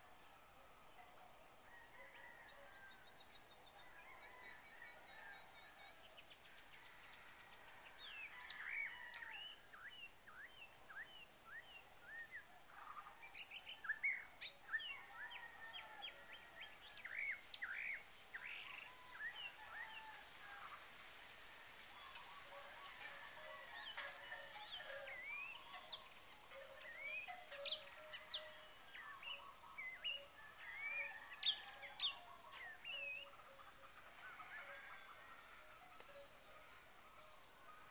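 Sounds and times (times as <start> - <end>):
faint background hiss: 0.0 - 37.9.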